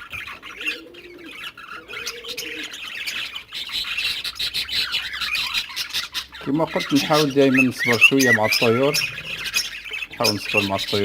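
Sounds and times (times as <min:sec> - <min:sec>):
dove cooing: 0:00.0 - 0:11.0
small cage birds chirping: 0:00.0 - 0:11.0.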